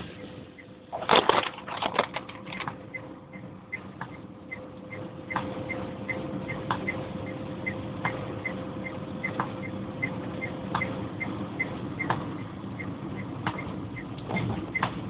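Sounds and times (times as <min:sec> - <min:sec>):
car engine and road hum: 0:00.0 - 0:15.0.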